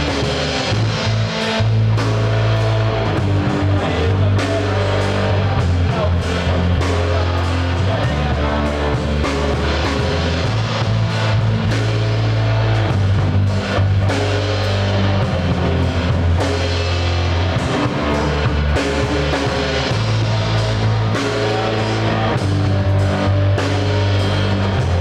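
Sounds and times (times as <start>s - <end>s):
bass guitar low notes: 0.0s - 25.0s
drum and cymbal hits: 0.0s - 25.0s
electric guitar: 0.0s - 25.0s.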